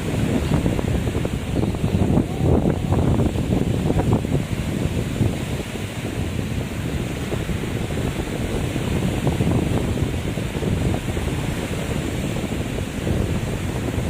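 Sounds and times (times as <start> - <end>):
waves breaking: 0.0 - 14.0.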